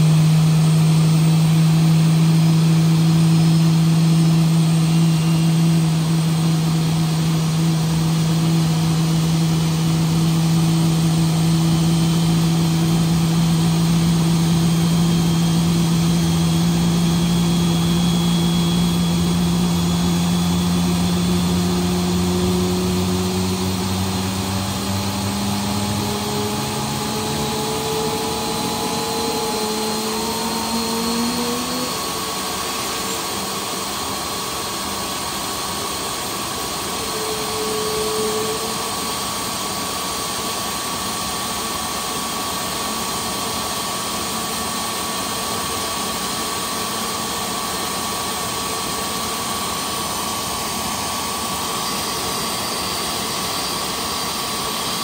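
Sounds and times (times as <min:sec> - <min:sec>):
faint high whine: 0:00.0 - 0:55.0
jet engine drone: 0:00.0 - 0:55.0.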